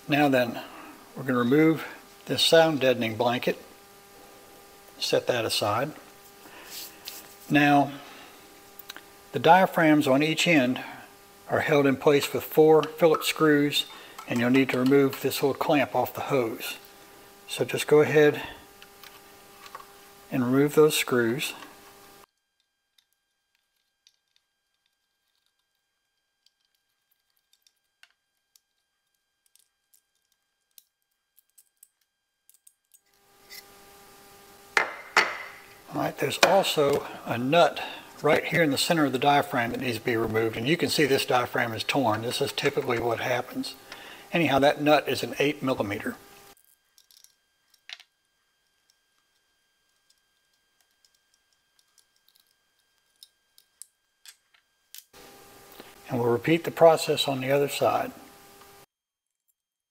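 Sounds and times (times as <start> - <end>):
faint steady hum: 0.0 - 58.9.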